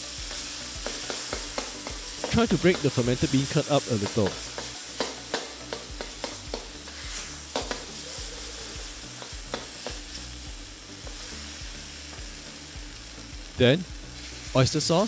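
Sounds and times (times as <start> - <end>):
beancurd sizzling in hot oil: 0.0 - 15.0.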